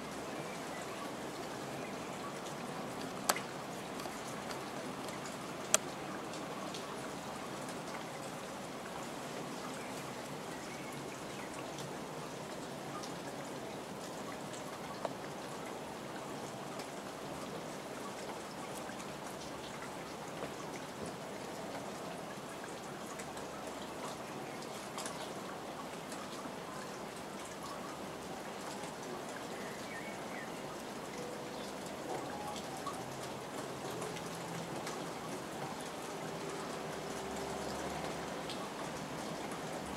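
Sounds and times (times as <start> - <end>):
rain falling: 0.0 - 39.9
raindrops ticking close by: 0.0 - 39.9.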